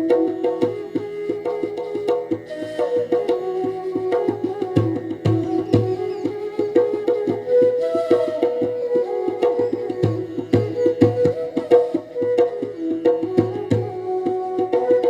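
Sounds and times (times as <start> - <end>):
flowing instrumental melody: 0.0 - 15.0.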